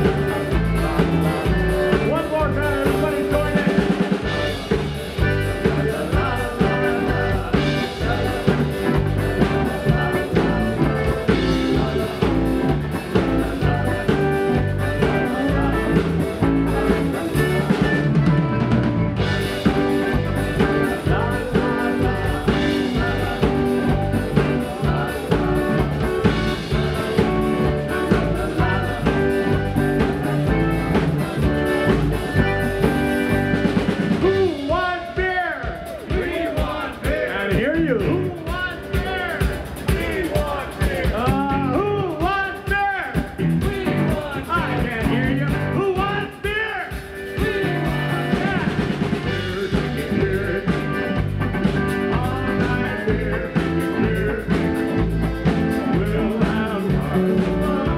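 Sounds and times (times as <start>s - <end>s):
electric keyboard: 0.0s - 34.7s, 44.7s - 57.9s
drum kit beat: 0.0s - 57.9s
guitar: 0.0s - 57.9s.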